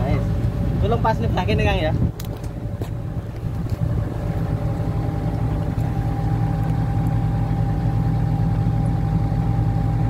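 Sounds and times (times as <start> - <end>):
diesel engine idling: 0.0 - 10.0
thin steady whine: 0.0 - 10.0.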